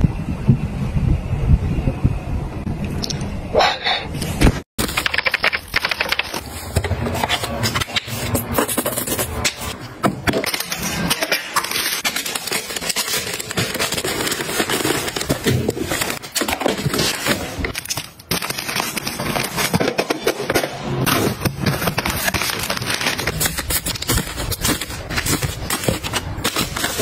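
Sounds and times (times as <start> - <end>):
plastic wrapping crinkling: 4.8 - 20.5, 21.1 - 27.0.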